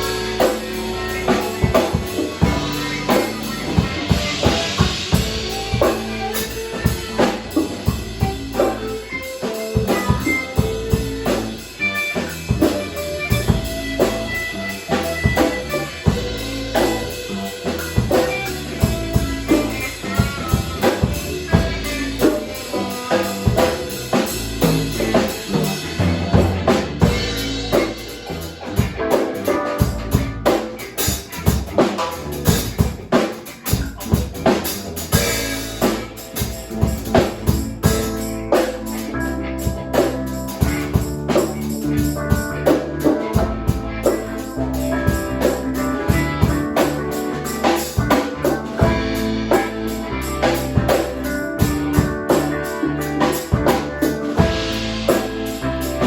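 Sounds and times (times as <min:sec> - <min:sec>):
bass line: 0:00.0 - 0:56.0
drum kit beat: 0:00.0 - 0:56.0.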